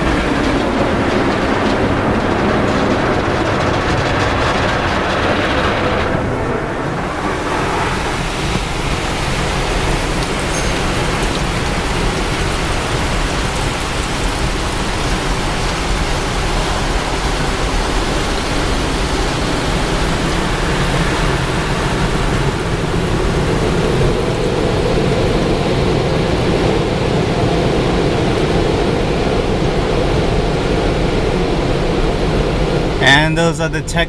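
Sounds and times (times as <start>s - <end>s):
water jets spraying on car: 0.0s - 29.4s.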